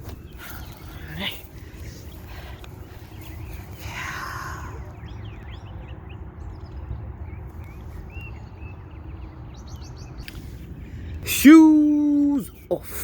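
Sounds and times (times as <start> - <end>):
wind rumble on microphone: 0.0 - 12.7
small birds chirping: 0.0 - 13.0.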